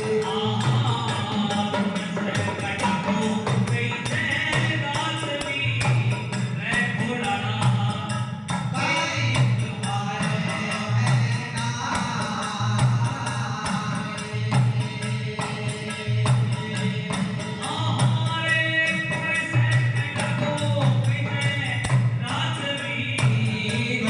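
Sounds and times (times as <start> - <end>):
devotional folk music: 0.0 - 24.0
jingling tambourine percussion: 0.0 - 24.0.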